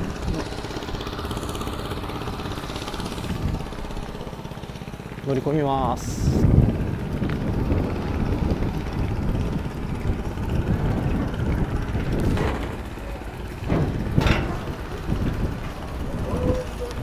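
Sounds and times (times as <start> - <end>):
boat diesel engine idling: 0.0 - 17.0.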